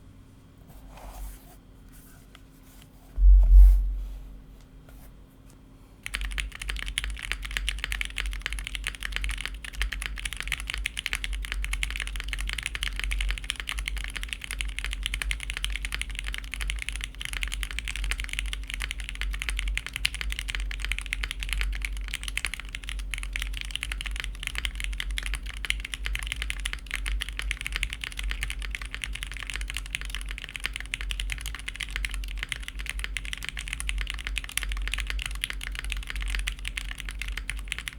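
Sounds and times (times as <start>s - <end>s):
mechanical keyboard typing: 6.0s - 37.9s.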